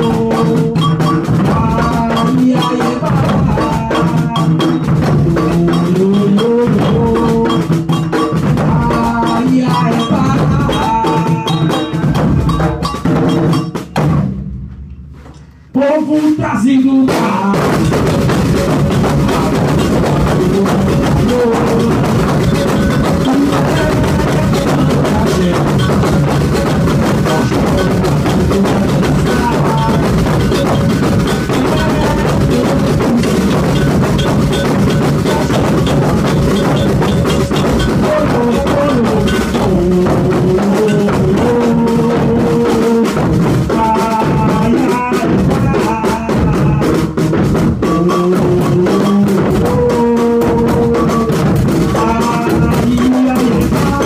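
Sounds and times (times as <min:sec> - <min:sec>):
pitched melody line: 0:00.0 - 0:14.2, 0:15.8 - 0:46.8, 0:47.8 - 0:54.0
percussion ensemble drumming: 0:00.0 - 0:54.0.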